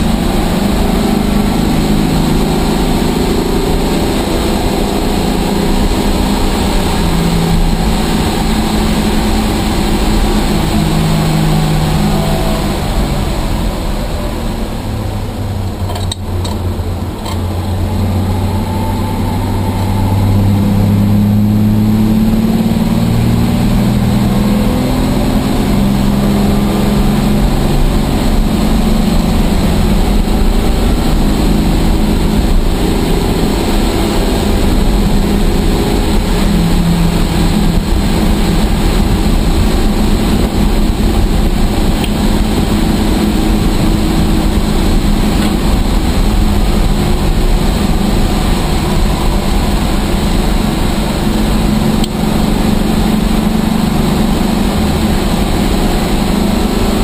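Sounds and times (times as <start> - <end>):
race car engine running hard: 0.0 - 57.0
wind and road noise: 0.0 - 57.0.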